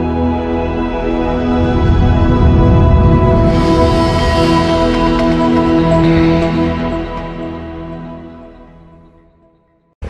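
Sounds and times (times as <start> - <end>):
sustained music chord: 0.1 - 9.2.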